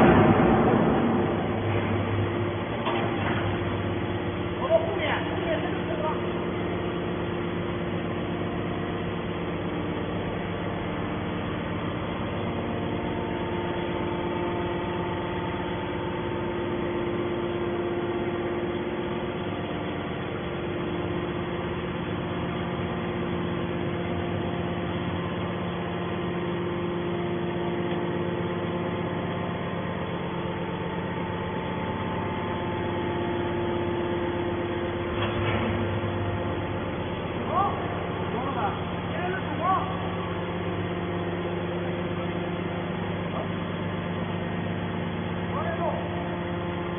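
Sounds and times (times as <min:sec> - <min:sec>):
hydraulic machine hum: 0:00.0 - 0:46.9.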